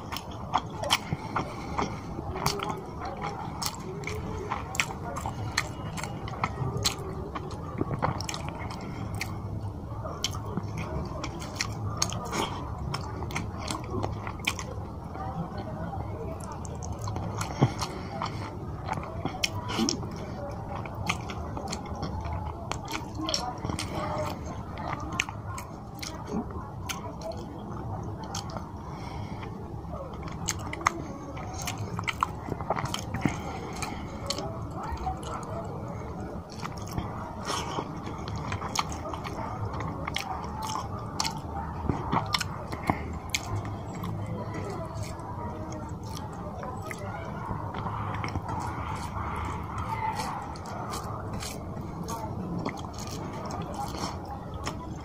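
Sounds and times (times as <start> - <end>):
chewing with wet mouth clicks: 0.0 - 55.0.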